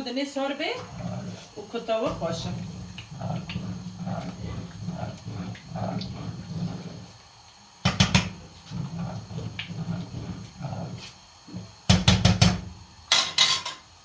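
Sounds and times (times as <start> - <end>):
bubbling: 0.5 - 12.9
spoon stirring thick pot: 0.6 - 7.2, 7.9 - 12.7.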